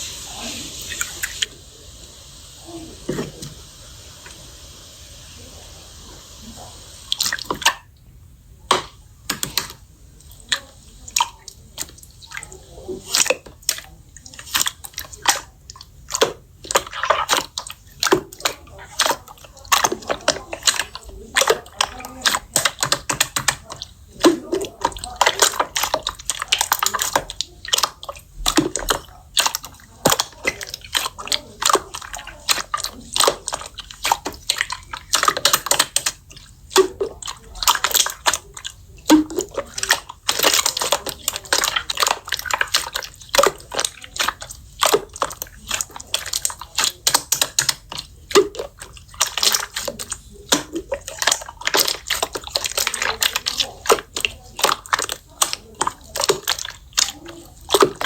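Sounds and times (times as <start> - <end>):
slime squelching and popping: 6.5 - 8.0, 8.6 - 58.0.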